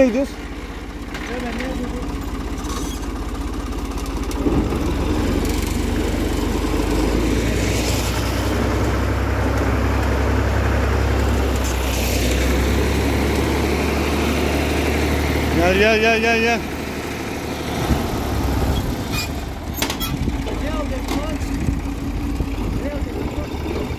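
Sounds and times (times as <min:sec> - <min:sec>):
tractor engine running: 0:00.0 - 0:23.9.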